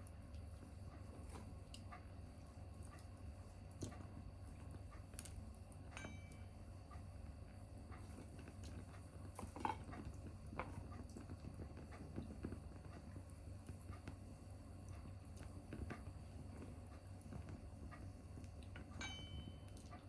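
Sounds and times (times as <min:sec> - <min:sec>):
wood fire crackling: 0:00.0 - 0:19.0
low steady hum: 0:00.0 - 0:20.0.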